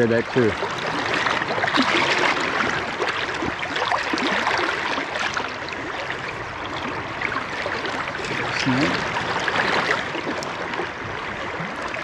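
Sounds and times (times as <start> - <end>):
river current rushing and gurgling: 0.0 - 12.0.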